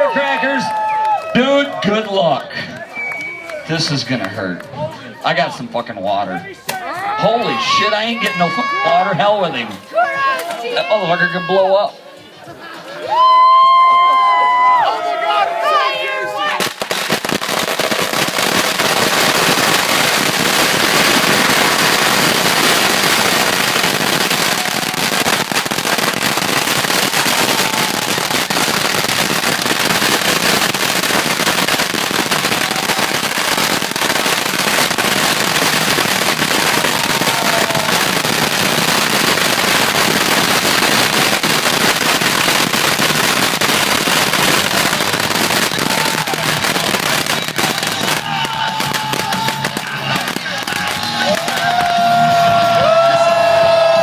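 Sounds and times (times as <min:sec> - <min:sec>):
firecrackers crackling: 0:00.0 - 0:11.4, 0:16.1 - 0:54.0.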